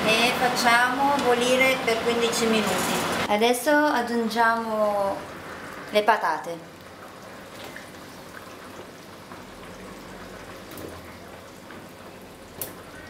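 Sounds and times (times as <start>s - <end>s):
stew bubbling in a wok: 0.3s - 13.0s.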